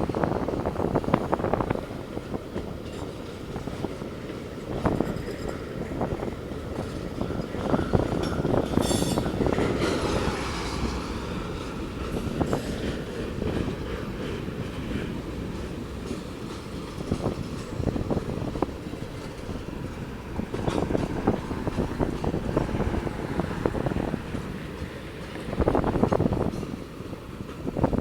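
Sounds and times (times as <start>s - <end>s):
train cars rumbling past: 0.0s - 28.0s
wheels clacking on rails: 0.0s - 28.0s.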